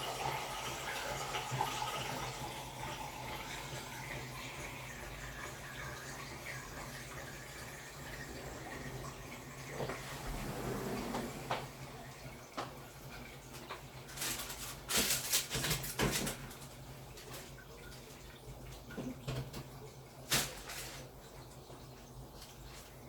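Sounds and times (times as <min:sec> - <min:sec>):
water sloshing in washing machine: 0:00.0 - 0:23.0.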